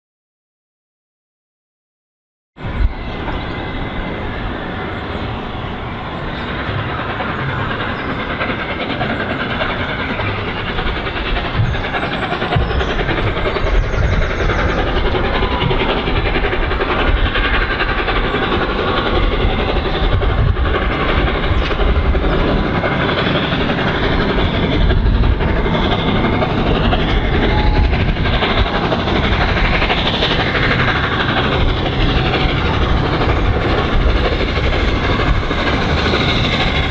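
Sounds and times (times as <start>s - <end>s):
steam train approaching: 2.6s - 36.9s.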